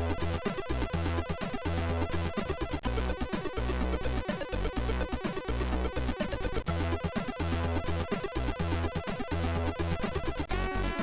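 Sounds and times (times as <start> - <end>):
chiptune music: 0.0 - 11.0.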